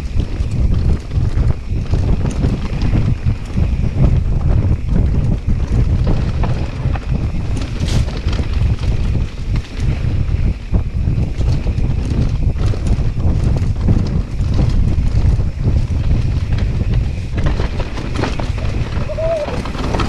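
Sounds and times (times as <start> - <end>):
bike knocking and rattling: 0.0 - 20.0
bike tyres rumbling on trail: 0.0 - 20.0
wind buffeting microphone: 0.0 - 20.0.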